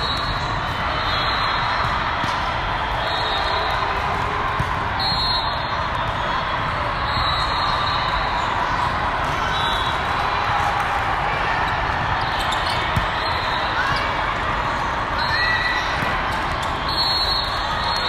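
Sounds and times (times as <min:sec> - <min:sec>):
players' voices: 0:00.0 - 0:18.0
volleyballs hit and bouncing: 0:00.0 - 0:18.0.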